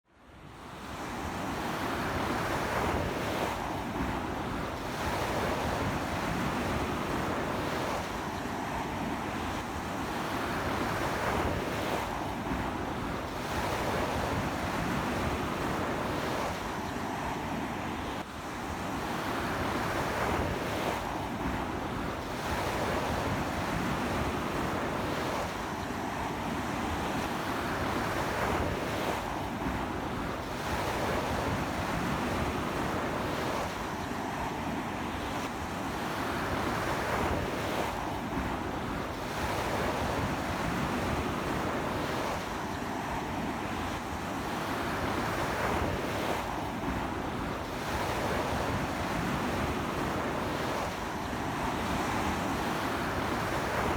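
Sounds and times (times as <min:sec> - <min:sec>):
sea waves breaking on beach: 0:00.6 - 0:53.9.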